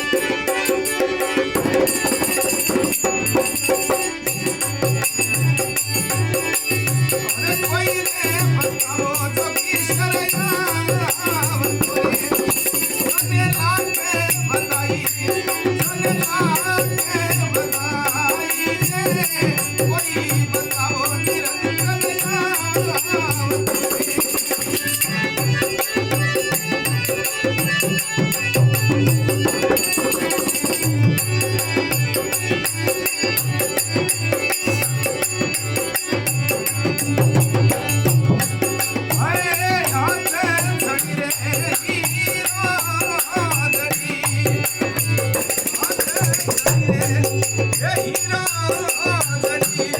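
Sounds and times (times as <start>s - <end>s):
rapid jingling percussion: 0.0s - 49.9s.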